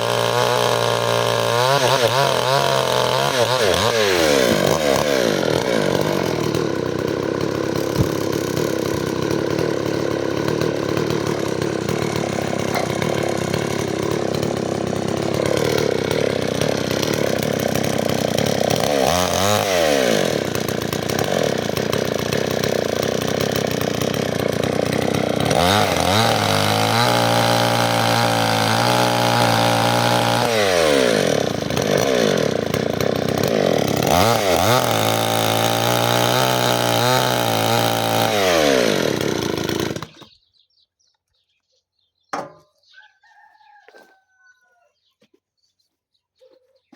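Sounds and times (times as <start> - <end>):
chainsaw cutting firewood: 0.0 - 40.5.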